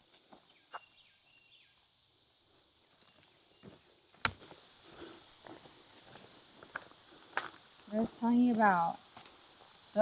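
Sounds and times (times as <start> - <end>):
insects droning: 0.1 - 10.0.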